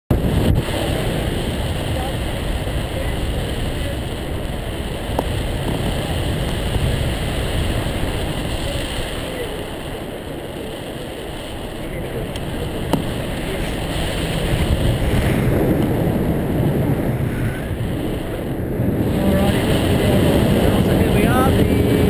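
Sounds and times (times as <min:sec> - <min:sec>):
wind noise on microphone: 0:00.1 - 0:22.0.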